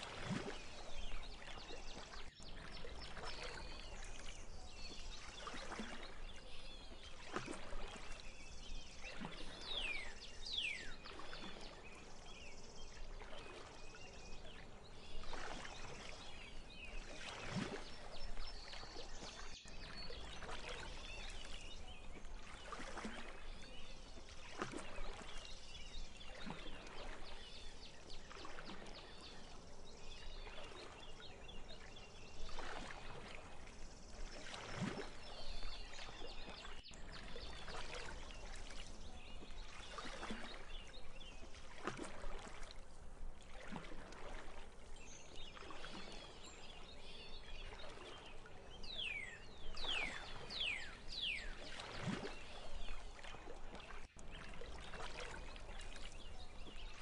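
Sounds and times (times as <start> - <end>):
faint bird twittering: 0.0 - 42.7, 43.6 - 57.0
small waves lapping: 0.0 - 57.0.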